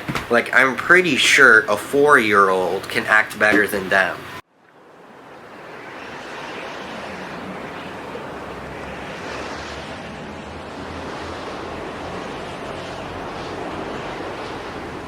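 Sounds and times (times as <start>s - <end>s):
wind rushing: 0.0s - 15.0s.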